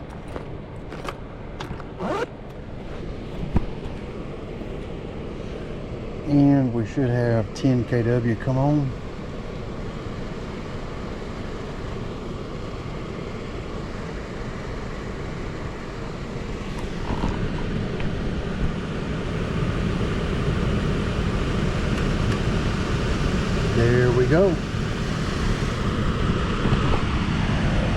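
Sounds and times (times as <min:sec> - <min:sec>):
blower motor rushing air: 0:01.4 - 0:27.9.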